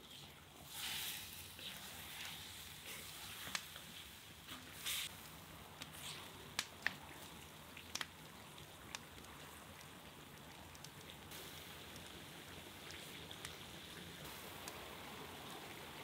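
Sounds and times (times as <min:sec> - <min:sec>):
meat sizzling in hot fat: 0:00.0 - 0:16.0.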